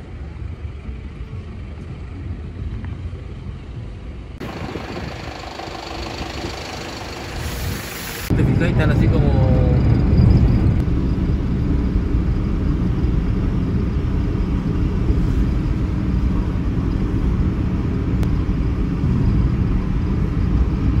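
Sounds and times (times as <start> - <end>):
road and engine noise inside car: 0.0 - 21.0.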